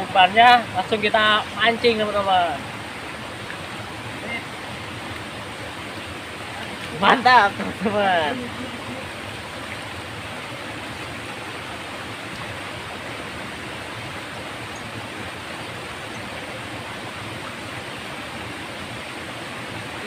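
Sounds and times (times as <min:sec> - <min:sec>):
stream water rushing over rocks: 0:00.0 - 0:20.0.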